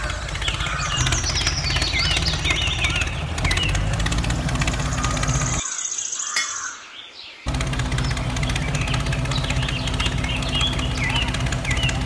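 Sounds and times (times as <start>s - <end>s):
small tractor engine chugging: 0.0s - 5.6s, 7.5s - 12.0s.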